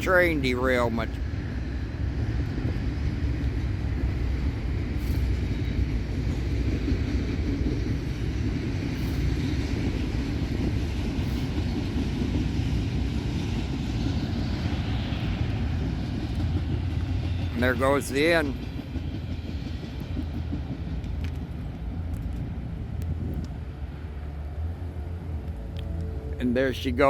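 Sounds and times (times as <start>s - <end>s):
freight train wheels on track: 0.0s - 27.0s.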